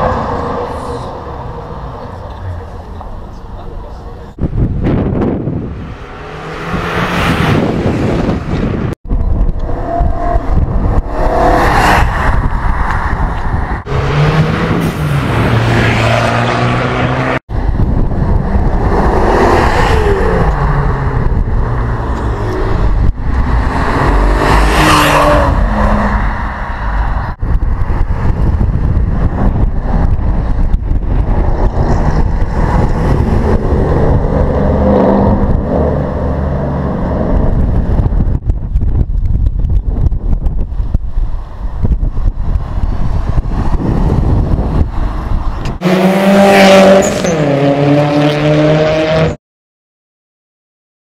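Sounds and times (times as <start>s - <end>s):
car engines revving: 0.0s - 39.3s, 40.0s - 49.4s.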